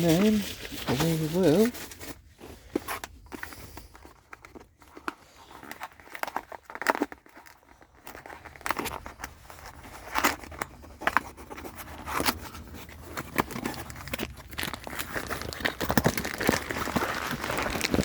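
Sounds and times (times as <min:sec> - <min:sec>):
plastic packaging crinkling: 0:00.0 - 0:18.0
plastic tearing: 0:03.0 - 0:18.0.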